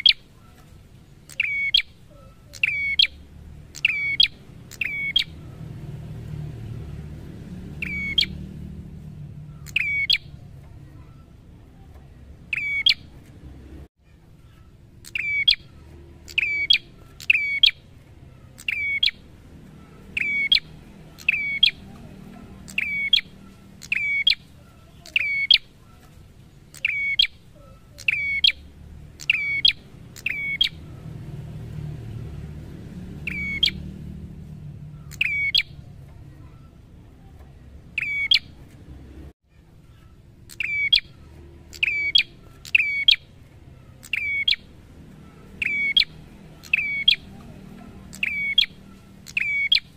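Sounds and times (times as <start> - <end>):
bird sharp chirps: 0.0 - 6.2, 7.6 - 13.2, 14.3 - 31.1, 33.2 - 38.7, 39.8 - 49.9.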